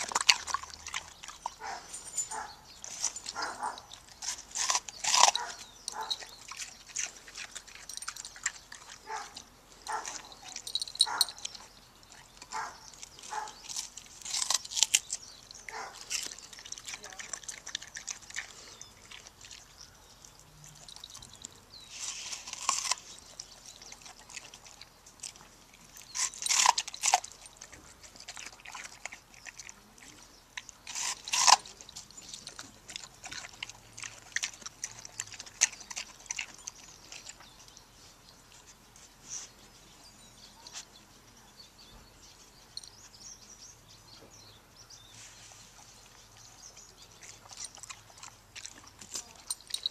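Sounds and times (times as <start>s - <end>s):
puppy crunching watermelon rind: 0.0s - 39.5s, 45.6s - 49.9s.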